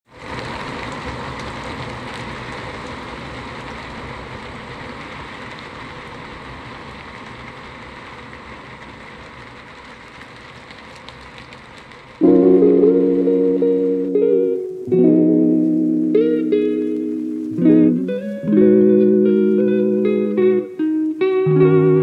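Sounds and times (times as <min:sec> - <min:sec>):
rain-like hiss: 0:00.1 - 0:22.0.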